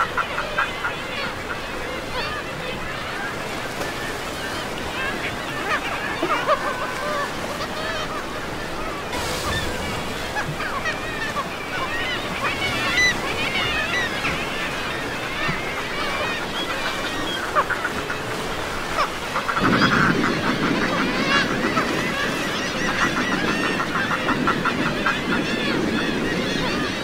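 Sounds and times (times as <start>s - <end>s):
deeper bird chorus: 0.0s - 27.0s
seabirds calling: 0.0s - 27.0s
surf: 0.0s - 27.0s
wind: 0.0s - 27.0s.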